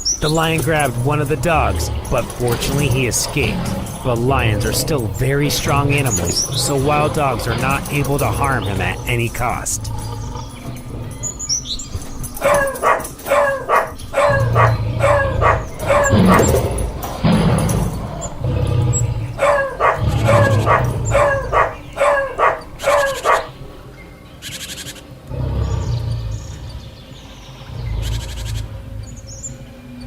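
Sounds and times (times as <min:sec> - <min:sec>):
wild dogs yelping: 0:00.0 - 0:30.0.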